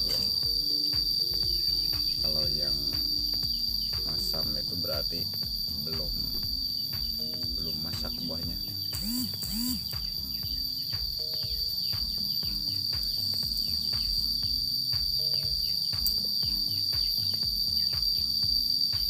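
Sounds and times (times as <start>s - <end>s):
insects droning: 0.0s - 19.0s
music with low beat: 0.0s - 19.0s.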